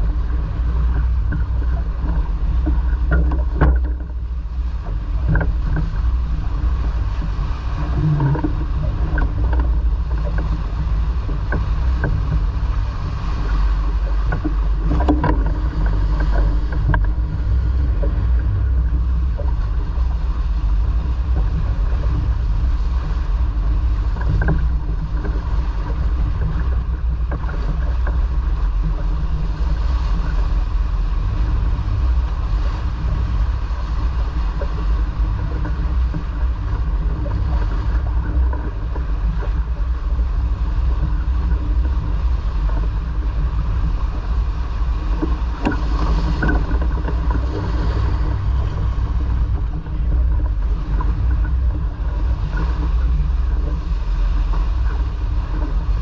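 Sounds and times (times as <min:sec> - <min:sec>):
faint hum: 0:00.0 - 0:56.0
sailboat low rumble: 0:00.0 - 0:56.0.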